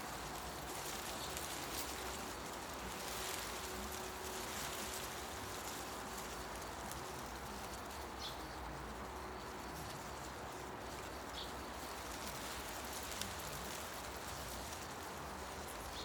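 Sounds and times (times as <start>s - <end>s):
wind through leaves: 0.0s - 16.0s.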